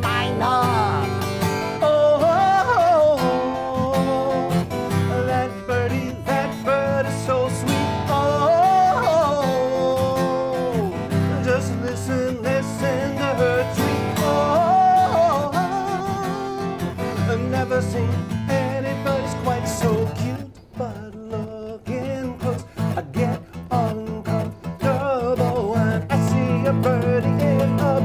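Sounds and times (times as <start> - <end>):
acoustic guitar strummed: 0.0 - 28.0
man singing: 0.0 - 28.0.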